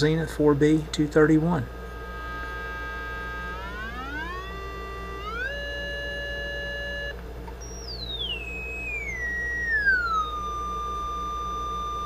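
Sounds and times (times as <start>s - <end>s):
faint steady hum: 0.0s - 12.0s
sine wave test tone: 1.5s - 12.0s.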